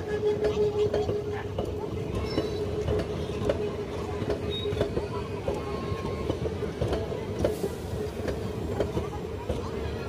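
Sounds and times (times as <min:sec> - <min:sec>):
train rumble: 0:00.0 - 0:10.0
train wheels clacking: 0:00.0 - 0:10.0.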